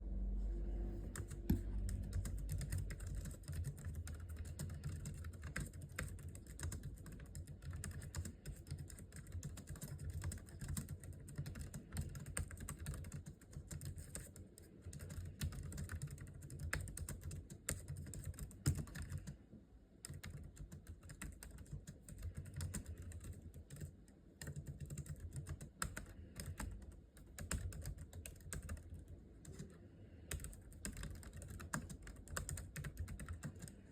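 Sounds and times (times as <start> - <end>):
fast typing on keyboard: 1.1 - 19.4, 20.0 - 33.9.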